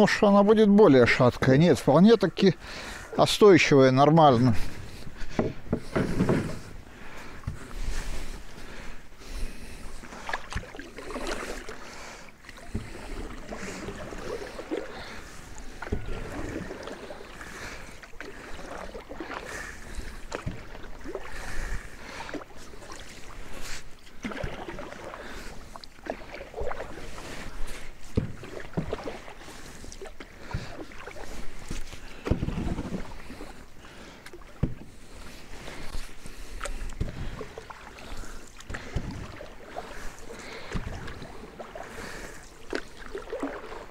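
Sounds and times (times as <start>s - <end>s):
paddle strokes splashing: 2.1s - 43.9s.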